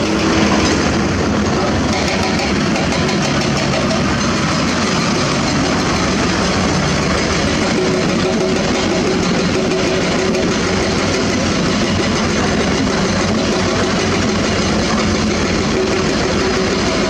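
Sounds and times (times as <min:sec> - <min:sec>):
dump truck driving off: 0:00.0 - 0:17.0
excavator engine running: 0:00.0 - 0:17.0.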